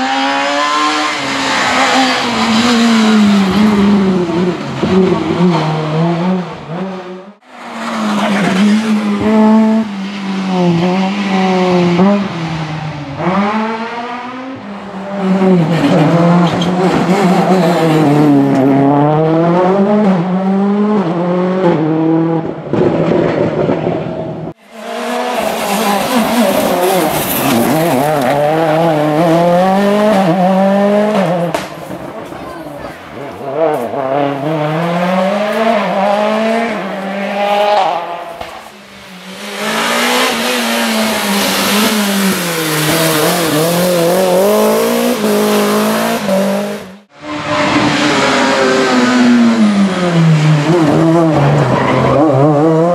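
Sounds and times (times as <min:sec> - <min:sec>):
rally car engines revving: 0:00.0 - 0:52.9.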